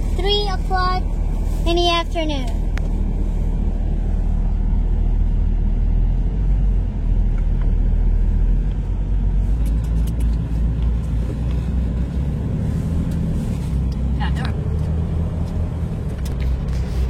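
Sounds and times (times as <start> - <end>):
truck diesel engine humming: 0.0 - 17.0.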